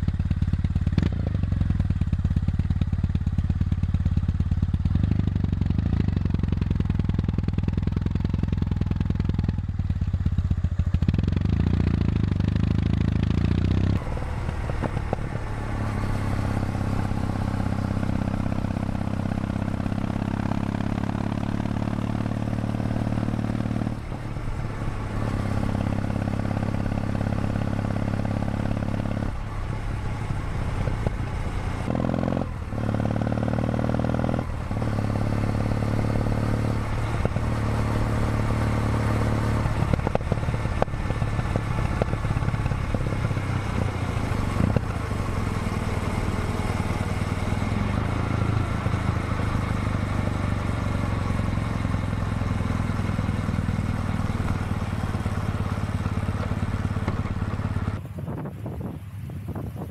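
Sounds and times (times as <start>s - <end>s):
motorcycle engine running: 0.0s - 59.9s
wind and tyres on wet road: 0.0s - 59.9s.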